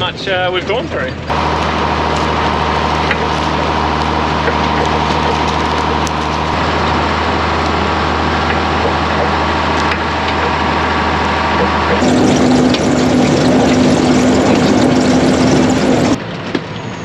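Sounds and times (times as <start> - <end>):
tractor engine running: 0.0 - 16.8
high whine: 1.2 - 16.2.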